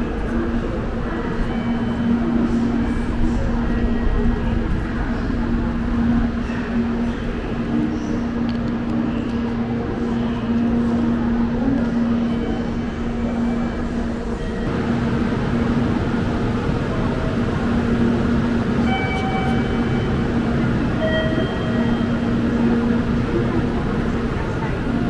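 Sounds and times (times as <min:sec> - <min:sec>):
train rumbling and rushing: 0:00.0 - 0:25.0.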